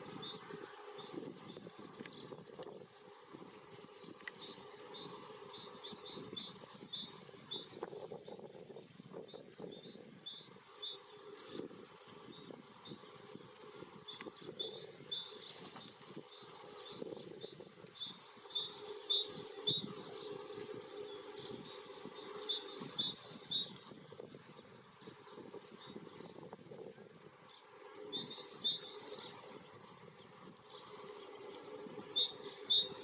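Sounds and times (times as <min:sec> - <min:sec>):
songbird singing: 0:00.0 - 0:02.8, 0:03.8 - 0:08.4, 0:09.1 - 0:33.0.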